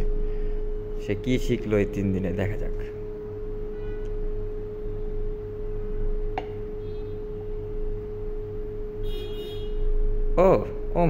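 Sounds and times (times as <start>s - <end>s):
steady hum with held tone: 0.0s - 11.0s.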